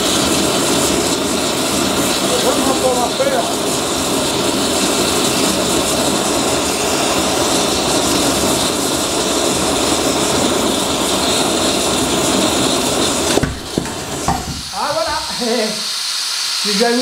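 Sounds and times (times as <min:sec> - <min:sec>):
gas burner flame rushing: 0:00.0 - 0:17.0.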